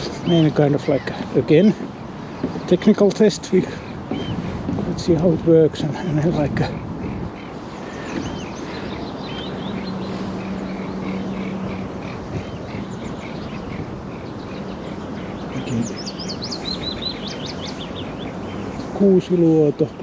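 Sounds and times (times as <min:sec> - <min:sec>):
outdoor background noise: 0:00.0 - 0:20.0
songbirds chirping and singing: 0:00.0 - 0:20.0.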